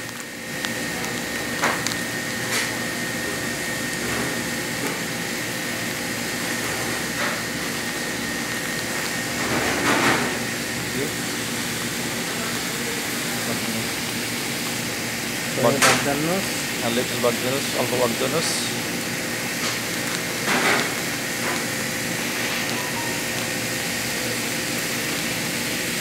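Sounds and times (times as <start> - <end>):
rushing kitchen noise: 0.0 - 26.0.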